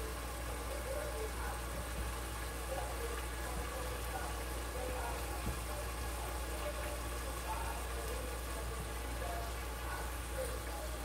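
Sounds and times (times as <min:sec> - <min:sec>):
meat simmering in a pot: 0:00.0 - 0:11.0.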